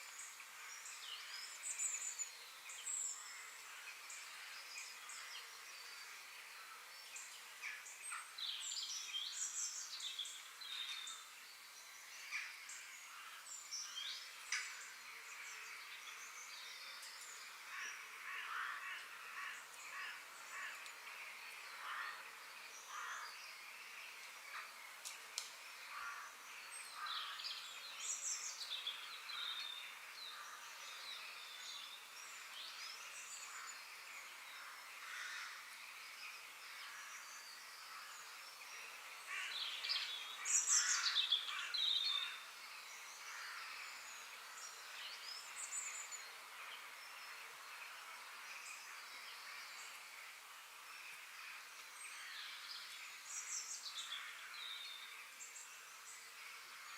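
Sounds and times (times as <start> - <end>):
small birds chirping: 0.0 - 56.9
steady background hiss: 0.0 - 56.9.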